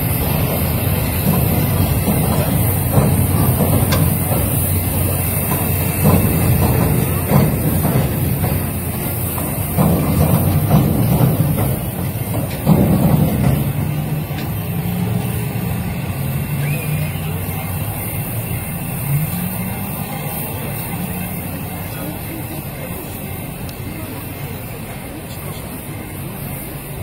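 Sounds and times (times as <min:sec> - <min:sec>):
low engine hum: 0:00.0 - 0:26.6
indistinct voices: 0:00.0 - 0:27.0.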